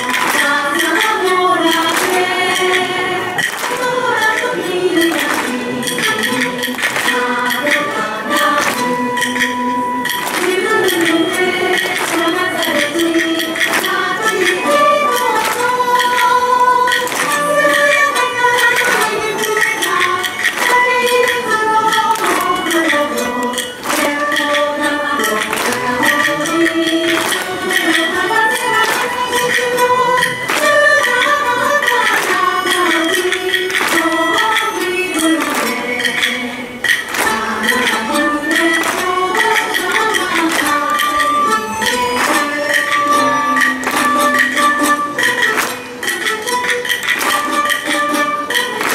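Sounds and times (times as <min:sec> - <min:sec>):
woman singing: 0:00.0 - 0:45.0
plucked lutes: 0:00.0 - 0:48.9
sharp percussion strikes: 0:00.0 - 0:48.9.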